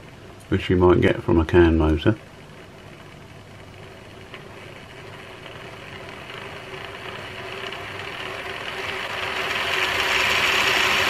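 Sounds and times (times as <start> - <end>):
model train motor and gears running: 0.0 - 11.0.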